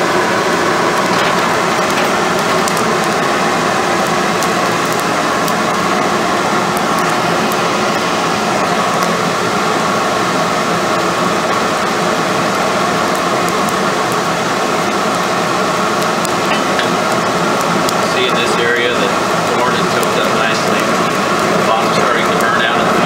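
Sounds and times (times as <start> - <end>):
fire crackling and popping: 0.0 - 23.0
fire rushing air and flame: 0.0 - 23.0.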